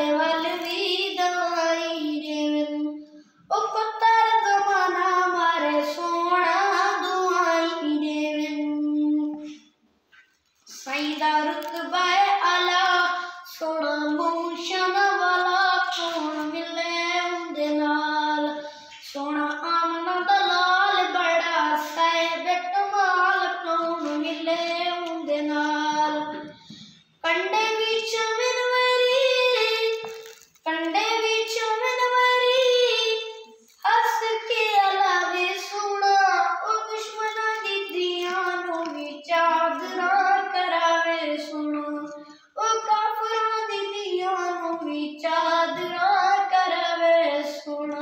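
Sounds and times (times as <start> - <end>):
boy singing devotional song: 0.0 - 48.0.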